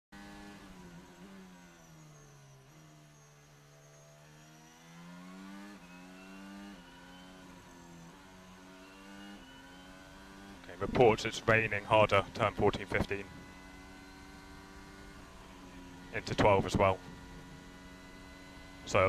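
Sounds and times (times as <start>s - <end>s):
faint high whine: 0.2s - 19.0s
racing car engine changing gears: 0.2s - 19.0s.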